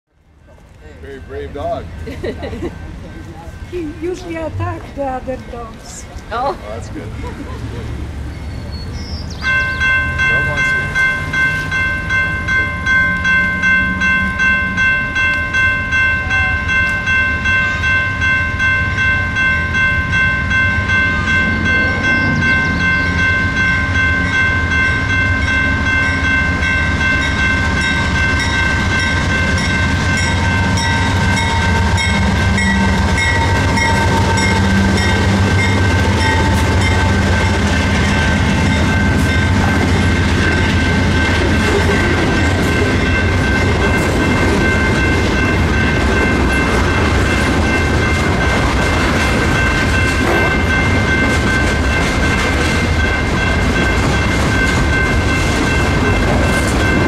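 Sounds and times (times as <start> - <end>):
crossing bell dinging: 0.3 - 57.0.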